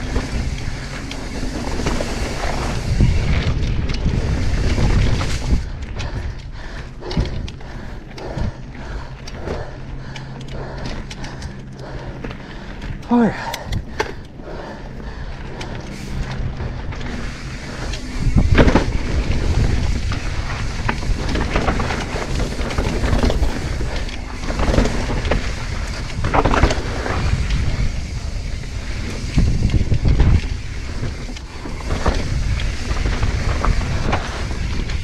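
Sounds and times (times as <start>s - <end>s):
bike rattling: 0.0s - 35.0s
bike tyres rumbling on dirt trail: 0.0s - 35.0s.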